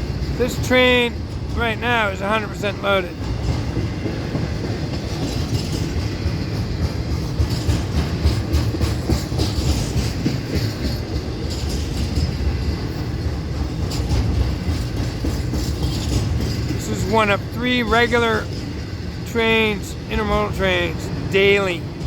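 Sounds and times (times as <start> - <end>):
freight train rumbling: 0.0 - 22.0
wheels clacking on rails: 0.0 - 22.0.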